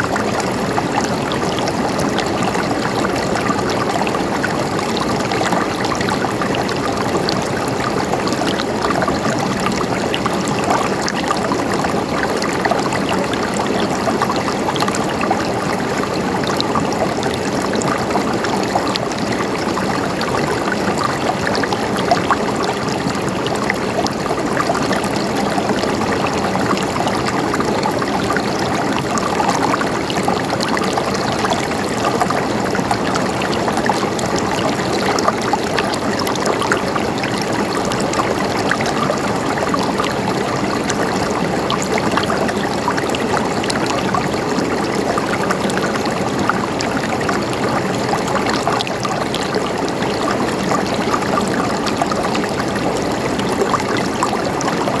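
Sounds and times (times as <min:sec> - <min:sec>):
stream water gurgling: 0:00.0 - 0:55.0.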